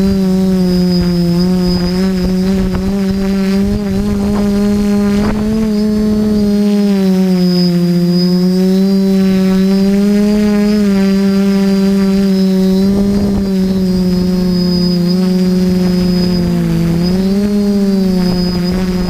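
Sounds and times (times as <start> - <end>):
drone motors buzzing: 0.0 - 19.0
thin high whine: 0.0 - 19.0.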